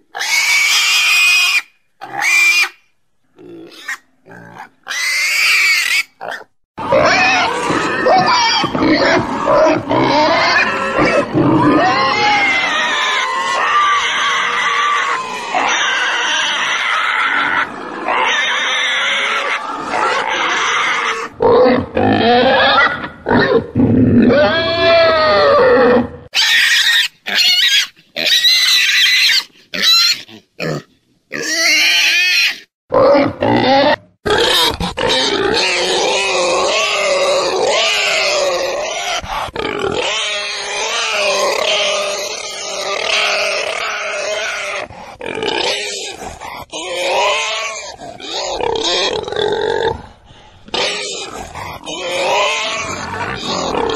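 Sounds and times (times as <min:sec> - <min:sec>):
pig calls: 0:00.0 - 0:53.9.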